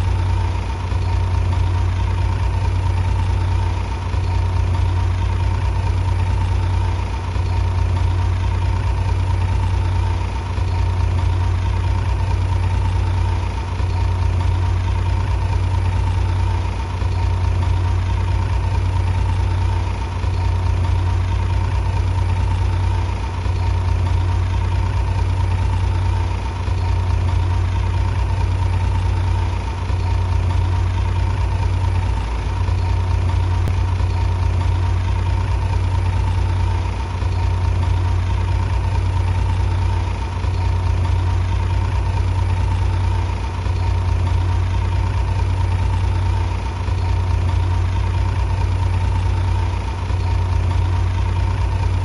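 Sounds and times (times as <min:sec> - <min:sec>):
bulldozer diesel engine humming: 0:00.0 - 0:52.0.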